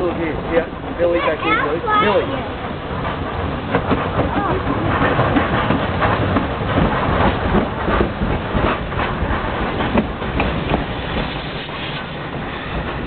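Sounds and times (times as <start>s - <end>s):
train wheels clicking over rails: 0.0s - 13.0s.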